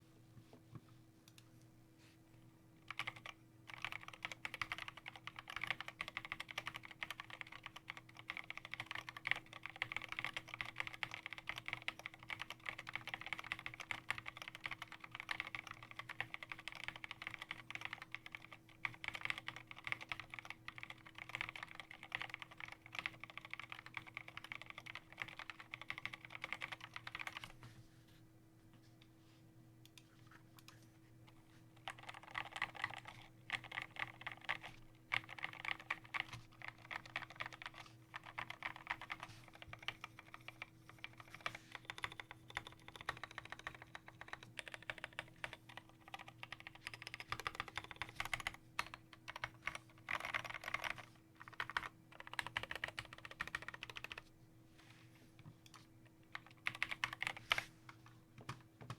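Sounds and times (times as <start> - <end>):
faint steady hum: 0.0 - 58.9
mechanical keyboard typing: 2.9 - 27.5, 31.8 - 54.3, 56.3 - 57.6.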